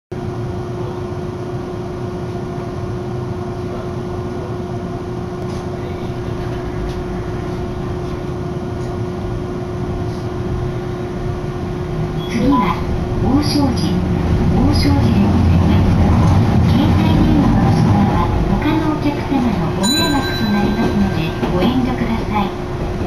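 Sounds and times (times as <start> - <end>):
streetcar cabin rumble and hum: 0.1 - 23.0.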